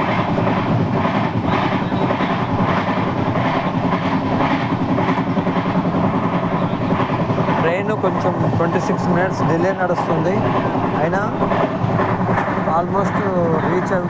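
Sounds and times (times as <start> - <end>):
train wheels clattering: 0.0 - 14.0
train wheels rumbling on rail: 0.0 - 14.0.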